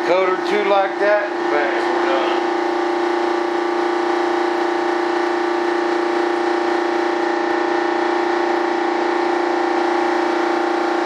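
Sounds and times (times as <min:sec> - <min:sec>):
machine hum with whine: 0:00.0 - 0:11.0.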